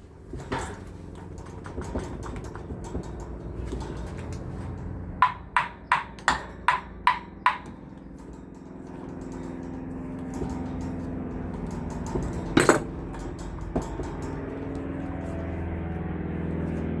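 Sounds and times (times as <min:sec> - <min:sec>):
tool tapping metal housing: 0:00.3 - 0:16.0.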